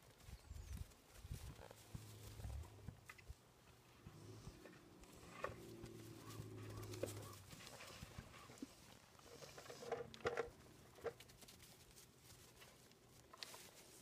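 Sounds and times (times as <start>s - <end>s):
sheep moving on straw: 0.0s - 3.1s, 3.9s - 14.0s.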